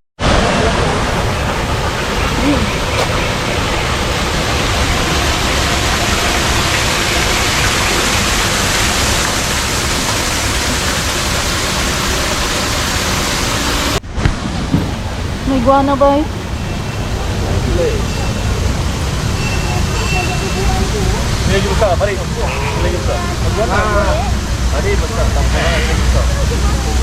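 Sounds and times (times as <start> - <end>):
falling water rushing: 0.2 - 27.0.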